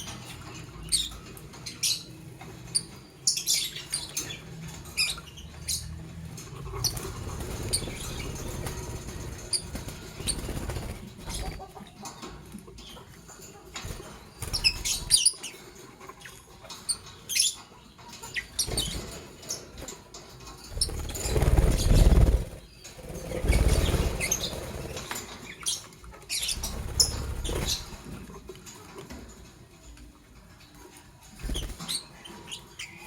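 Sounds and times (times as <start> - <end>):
lovebirds chirping and squeaking: 0.0 - 28.9, 29.5 - 33.0.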